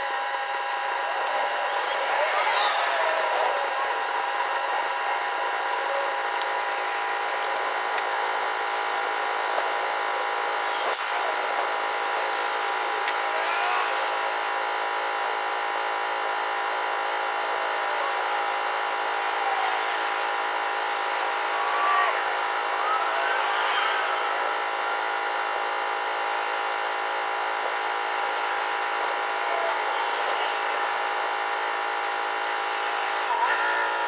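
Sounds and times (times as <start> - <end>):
steady mechanical drone: 0.0 - 34.0.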